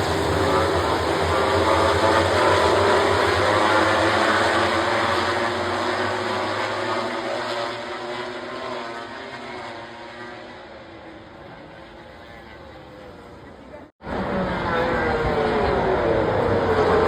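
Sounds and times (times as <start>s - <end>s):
motorcycle engines passing: 0.0s - 17.0s.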